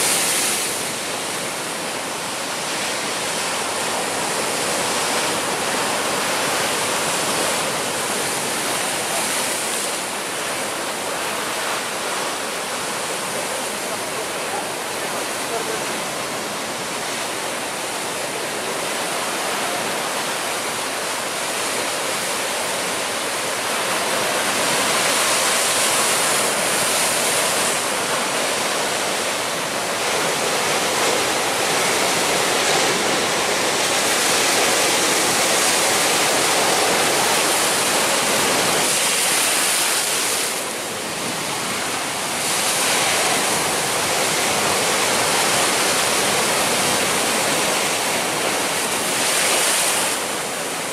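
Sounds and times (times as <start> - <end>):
surf breaking over rocks: 0.0 - 50.9.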